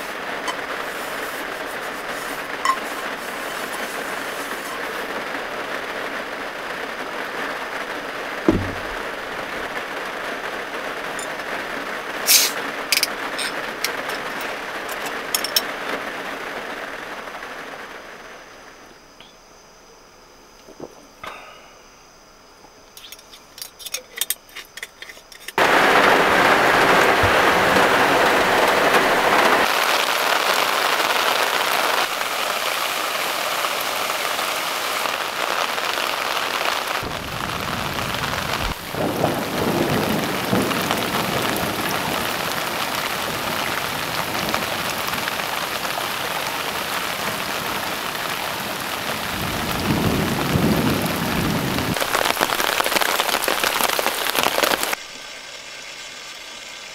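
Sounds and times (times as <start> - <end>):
heavy rain pouring: 0.0 - 19.2, 25.6 - 55.9.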